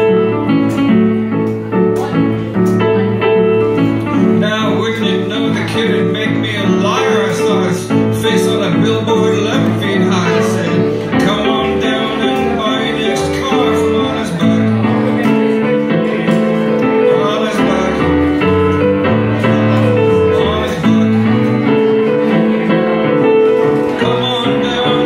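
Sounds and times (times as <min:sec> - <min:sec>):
electronic keyboard playing: 0:00.0 - 0:25.0
man singing: 0:03.9 - 0:25.0.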